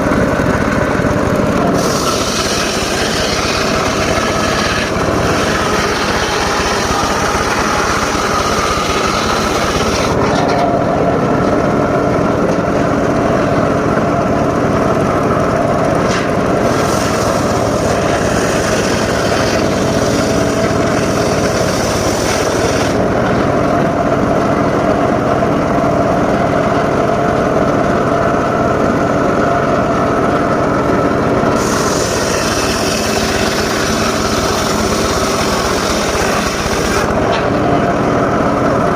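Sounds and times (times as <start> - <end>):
engine-driven circular saw cutting wood: 0.0 - 38.9.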